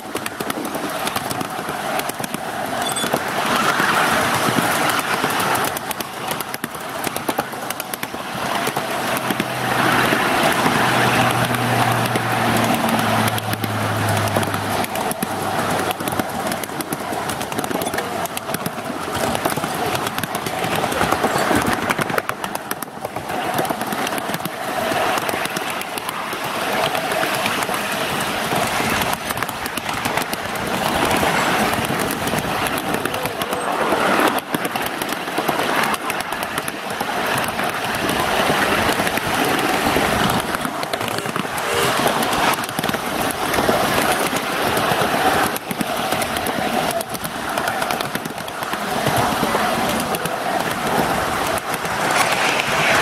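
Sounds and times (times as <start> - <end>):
small wheels clattering on rails: 0.0 - 53.0.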